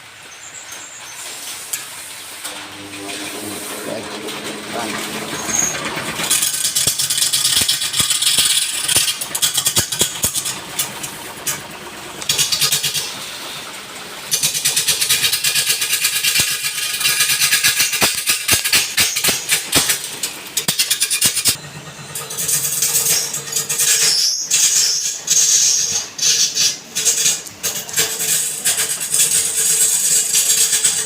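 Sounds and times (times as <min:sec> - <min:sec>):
turning tool scraping wood: 0:01.2 - 0:21.6, 0:22.2 - 0:31.0
wood lathe running: 0:01.9 - 0:31.0.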